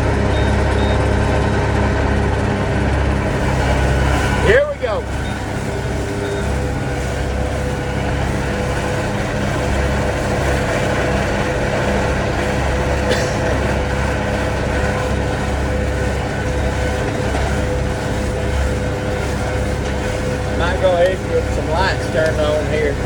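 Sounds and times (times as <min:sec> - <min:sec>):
steady mower whine: 0:00.0 - 0:23.0
tractor engine drone: 0:00.0 - 0:23.0.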